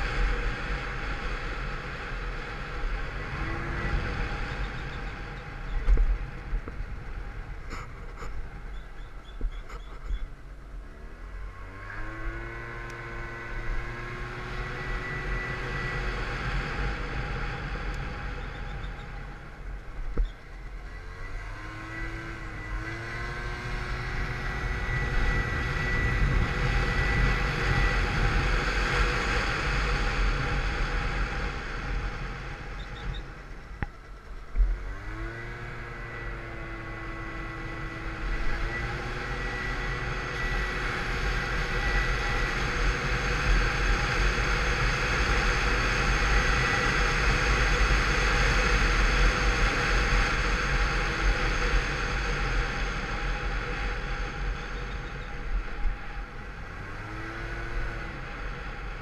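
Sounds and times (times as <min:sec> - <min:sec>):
scooter engine accelerating: 0:00.0 - 0:10.2, 0:10.8 - 0:59.0
wind rush on microphone: 0:00.0 - 0:10.3, 0:13.3 - 0:59.0.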